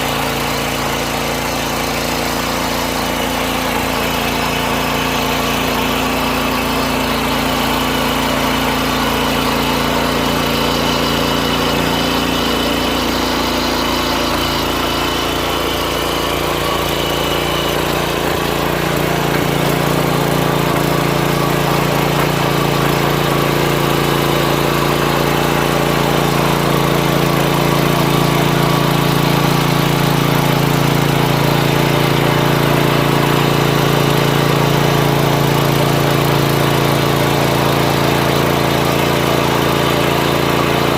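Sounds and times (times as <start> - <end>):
tiller engine running: 0.0 - 40.9.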